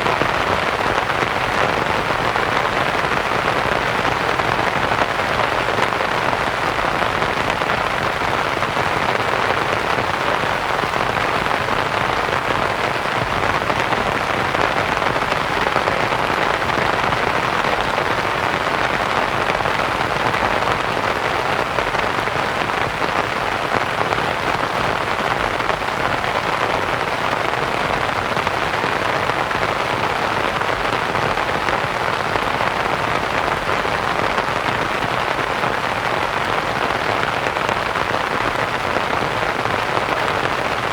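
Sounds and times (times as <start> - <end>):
rain pattering on a tent: 0.0 - 40.9.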